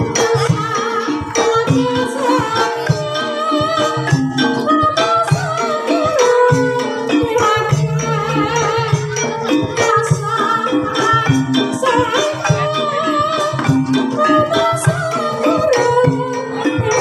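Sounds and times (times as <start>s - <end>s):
gamelan music with drums: 0.0s - 17.0s.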